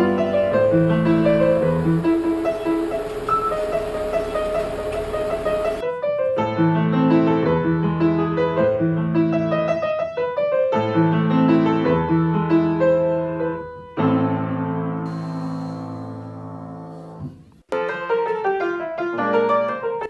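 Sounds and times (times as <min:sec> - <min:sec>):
piano piece with bass line: 0:00.0 - 0:20.0.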